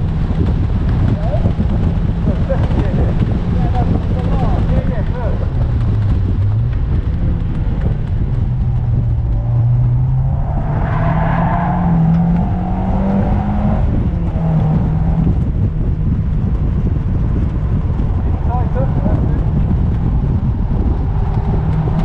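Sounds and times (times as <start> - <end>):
car engine revving: 0.0 - 22.0
heavy wind: 0.0 - 22.0
road rumble: 0.0 - 22.0.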